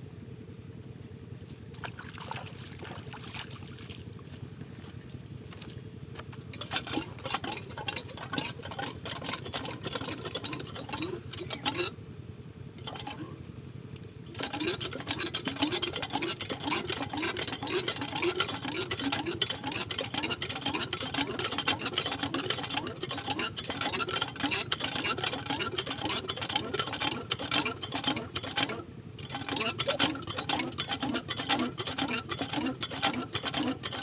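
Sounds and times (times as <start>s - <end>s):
diesel pump engine clattering: 0.4s - 34.0s.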